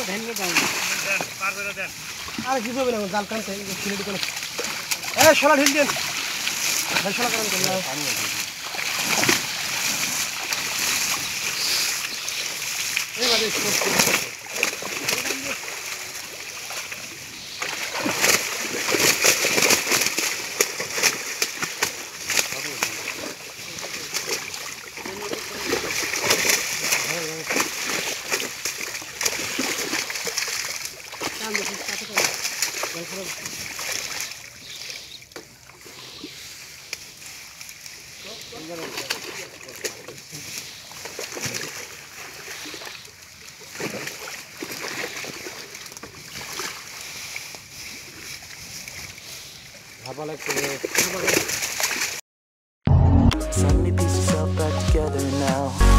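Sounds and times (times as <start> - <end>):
water splashing and sloshing: 0.0 - 52.2.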